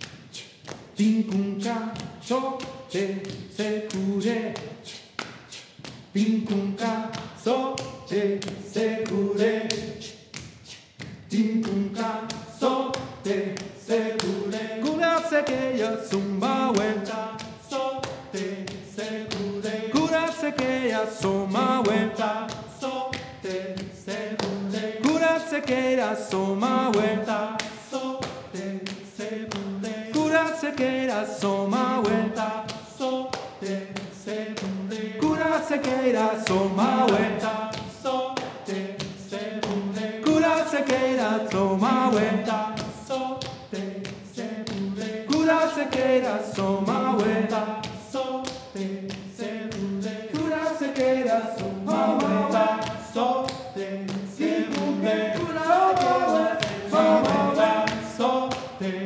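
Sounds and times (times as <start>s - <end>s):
hand clapping: 0.0s - 58.9s
group singing a cappella: 0.0s - 59.0s.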